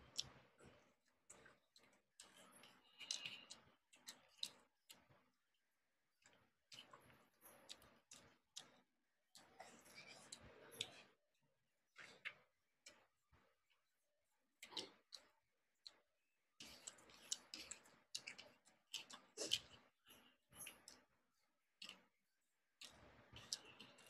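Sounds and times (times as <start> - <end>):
fingers mixing rice on plate: 0.0 - 5.3, 6.2 - 11.2, 11.9 - 24.0
wet chewing and lip-smacking: 0.0 - 5.3, 6.2 - 11.2, 12.0 - 13.8, 14.6 - 16.0, 16.6 - 21.2, 21.8 - 22.1, 22.8 - 24.0.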